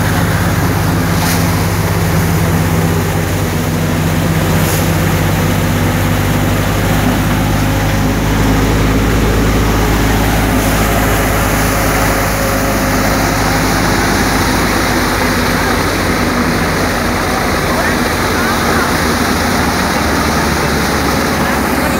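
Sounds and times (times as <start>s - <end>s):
rushing rattling of plants: 0.0s - 21.9s
threshing machine hum: 0.0s - 21.9s.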